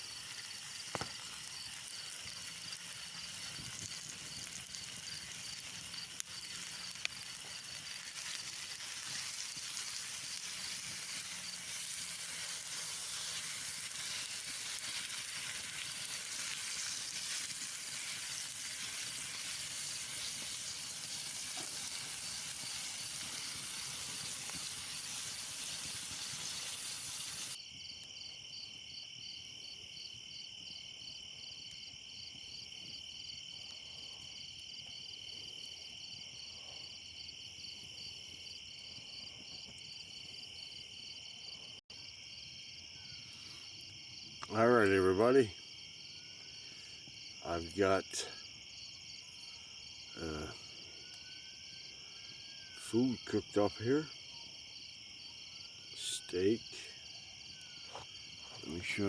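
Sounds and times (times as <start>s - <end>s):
food sizzling over campfire: 0.0s - 59.0s
insects chirping: 0.0s - 59.0s.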